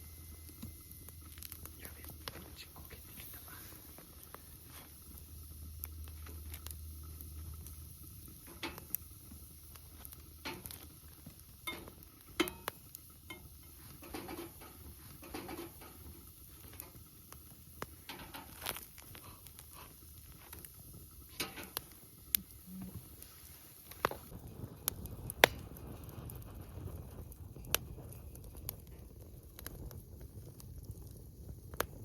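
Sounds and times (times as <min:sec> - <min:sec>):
campfire crackling: 0:00.0 - 0:32.0
faint steady hiss: 0:00.0 - 0:32.0.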